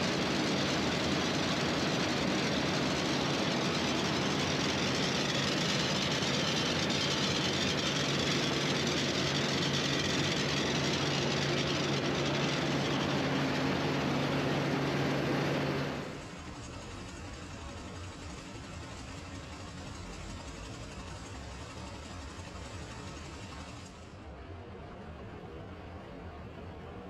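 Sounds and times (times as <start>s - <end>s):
potato harvester machinery running: 0.0s - 24.2s.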